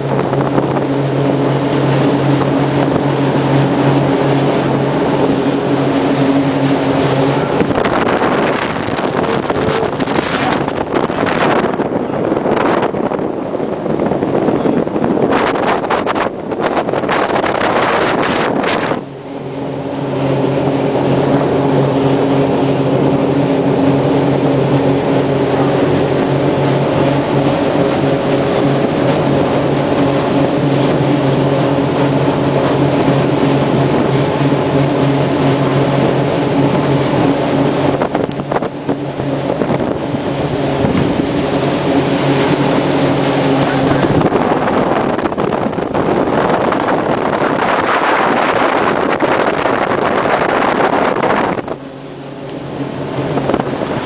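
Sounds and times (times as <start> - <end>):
motorboat engine: 0.0 - 54.0
wind and water rushing: 0.0 - 54.0.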